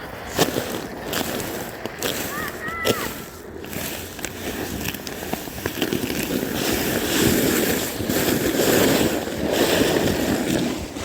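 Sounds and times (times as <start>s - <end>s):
sled scraping on ice: 0.0s - 11.0s.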